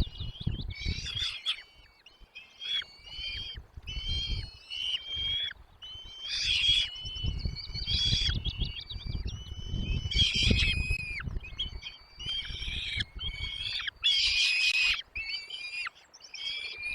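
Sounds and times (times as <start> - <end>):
chicks begging calls: 0.0 - 15.9.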